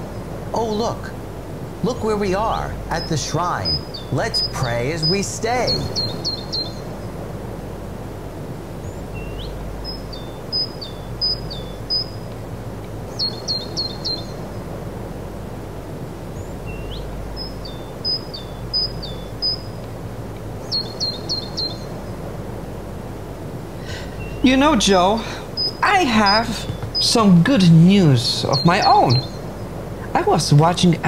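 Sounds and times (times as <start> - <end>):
outdoor background rumble: 0.0 - 31.0
songbird chirping: 0.0 - 31.0.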